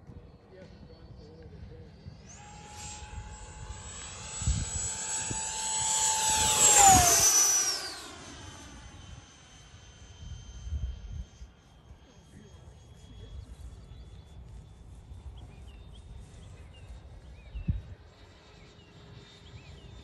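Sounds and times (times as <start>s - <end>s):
model jet fan whining: 0.2s - 20.0s.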